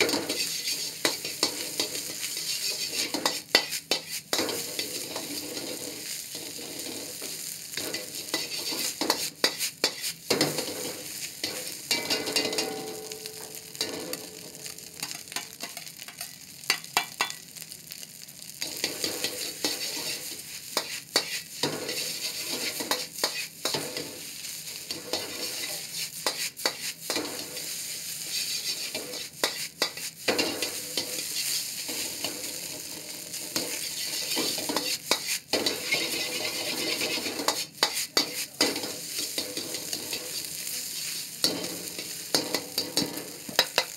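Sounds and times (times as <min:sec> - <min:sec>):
metal ladle scraping a pan: 0:00.0 - 0:14.4, 0:18.6 - 0:43.9
rice sizzling in a wok: 0:00.0 - 0:43.9.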